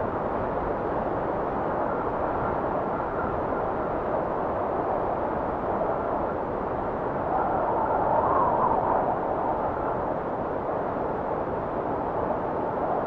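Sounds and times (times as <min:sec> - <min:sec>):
faint wind whistling: 0:00.0 - 0:13.0.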